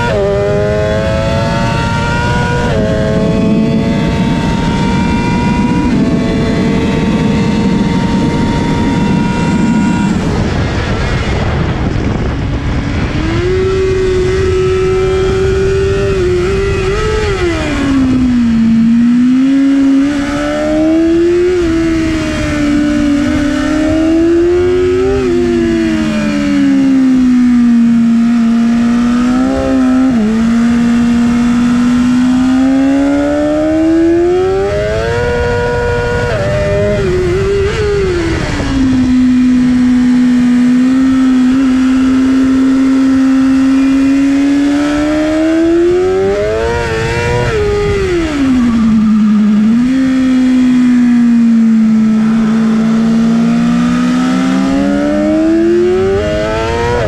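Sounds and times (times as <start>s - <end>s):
motorcycle engine racing: 0.0s - 57.0s.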